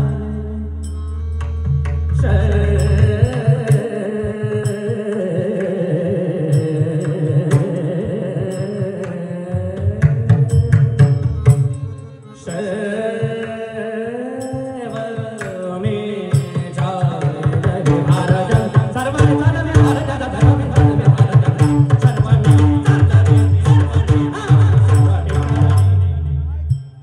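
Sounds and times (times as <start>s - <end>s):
person singing devotional song: 0.0s - 26.5s.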